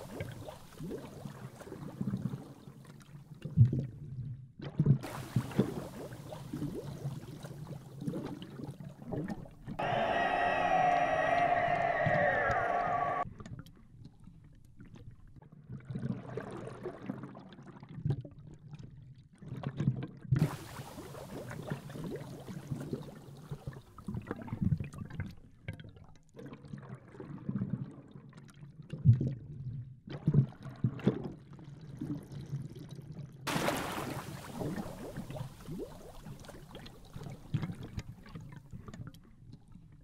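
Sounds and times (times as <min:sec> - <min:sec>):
water sloshing and gurgling underwater: 0:00.0 - 0:40.0.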